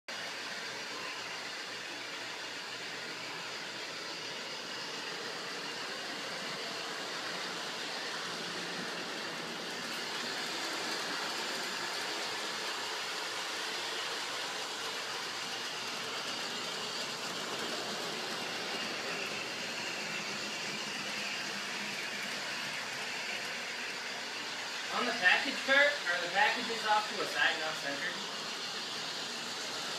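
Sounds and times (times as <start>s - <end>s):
toy train motor whirring: 0.2s - 29.9s.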